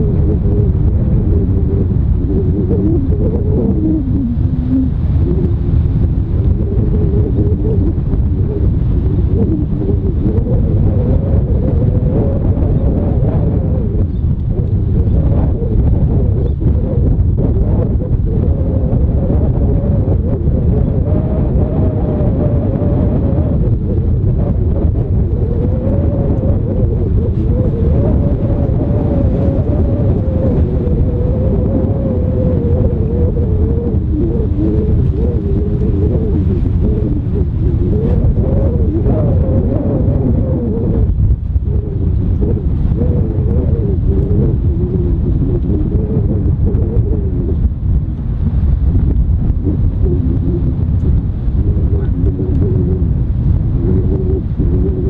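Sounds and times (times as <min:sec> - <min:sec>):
faint wavering hum: 0:00.0 - 0:55.0
wind buffeting microphone: 0:00.0 - 0:55.0.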